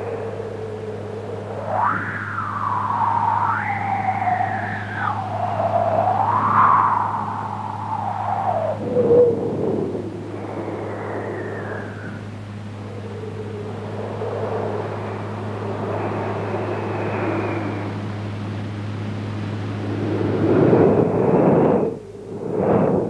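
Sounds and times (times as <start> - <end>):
faint whistling tones: 0.0 - 23.0
low hum: 0.0 - 23.0
strong wind gusting: 0.0 - 23.0.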